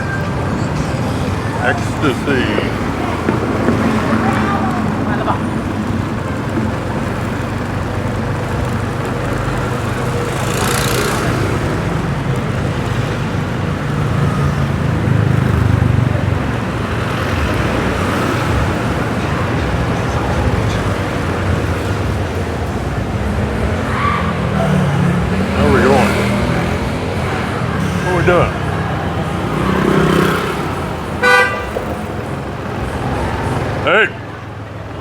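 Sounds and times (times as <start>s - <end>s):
street traffic: 0.0s - 35.0s
motorbike engine running: 1.3s - 33.8s.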